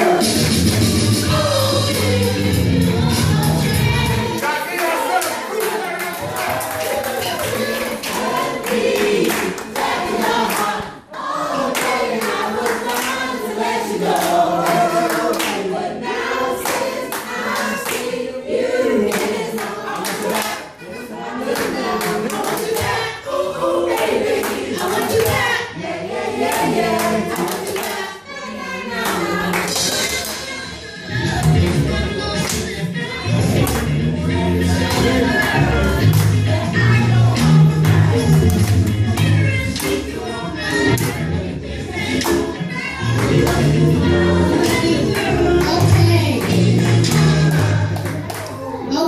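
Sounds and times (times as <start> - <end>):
hands clapping in rhythm: 0.0 - 2.4, 3.4 - 15.7, 16.5 - 18.3, 19.0 - 20.8, 21.4 - 23.2, 23.8 - 25.7, 26.4 - 28.2, 29.0 - 34.0, 34.8 - 41.4, 42.0 - 48.7
choir singing: 0.0 - 49.0.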